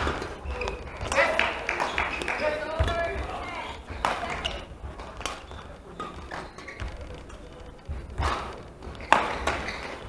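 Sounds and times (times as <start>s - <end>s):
racket striking shuttlecock: 0.0s - 7.4s, 8.2s - 10.0s
footfalls on court floor: 0.0s - 10.0s.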